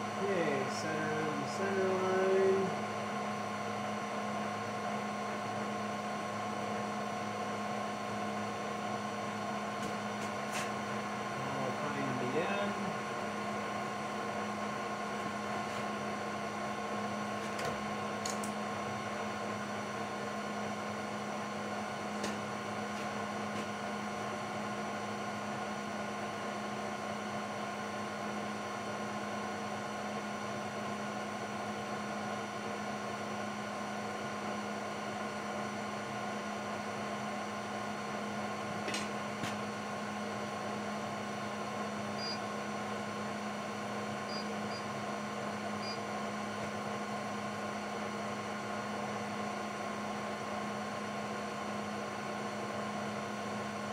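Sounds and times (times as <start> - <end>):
shop machinery hum: 0.0 - 53.9.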